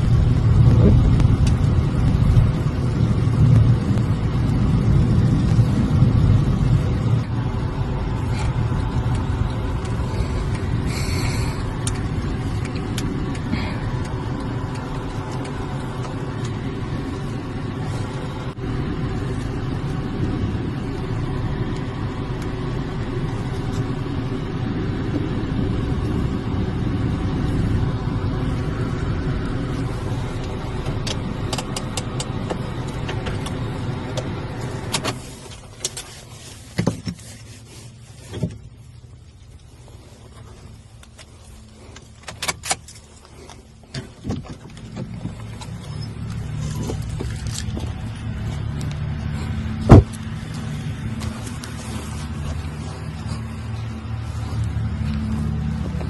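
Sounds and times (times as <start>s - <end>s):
car tyre and engine rumble: 0.0s - 56.0s.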